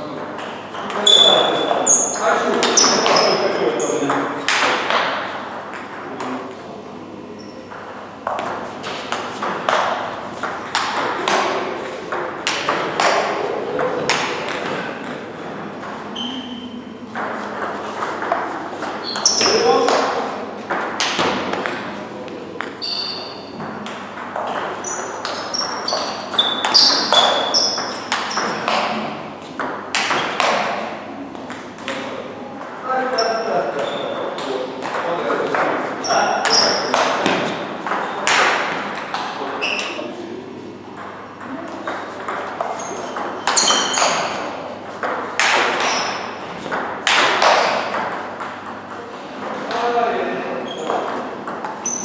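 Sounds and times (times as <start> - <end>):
ping pong ball hitting bats: 0.2 - 6.6, 7.6 - 40.0, 40.9 - 52.0
ball bouncing on table: 2.3 - 3.4, 4.0 - 6.4, 7.7 - 15.2, 17.1 - 32.1, 33.1 - 40.0, 41.0 - 49.8, 50.6 - 52.0.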